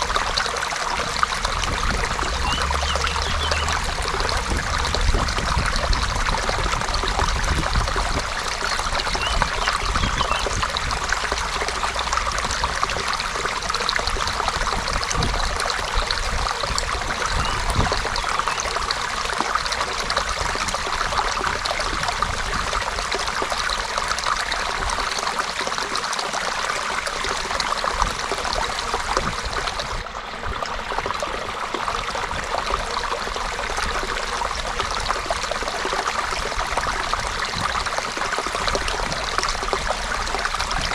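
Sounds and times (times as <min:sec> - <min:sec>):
creek trickling over stones: 0:00.0 - 0:40.9.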